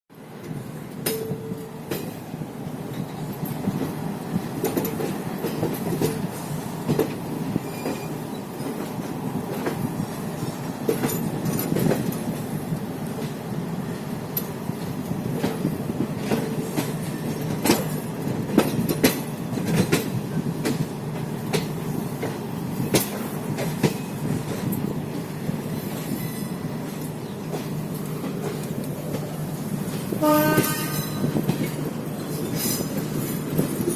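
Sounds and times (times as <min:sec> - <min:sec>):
train coaches rumbling: 0:00.1 - 0:33.9
wheels clanking over rail joints: 0:02.8 - 0:13.4, 0:14.3 - 0:33.9.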